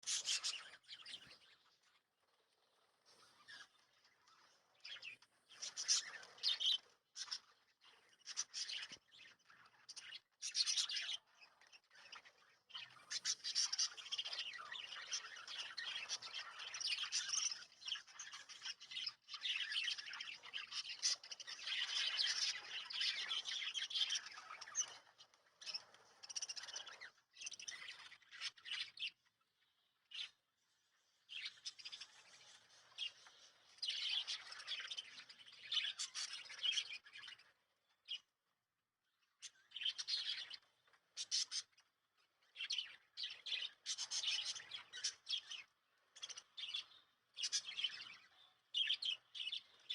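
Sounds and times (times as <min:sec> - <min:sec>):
birds chirping and chattering: 0:00.0 - 0:38.4, 0:39.1 - 0:49.9.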